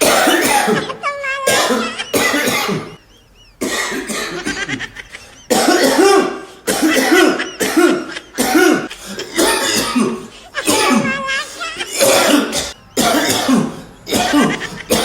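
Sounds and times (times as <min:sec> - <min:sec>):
person coughing: 0:00.0 - 0:15.0.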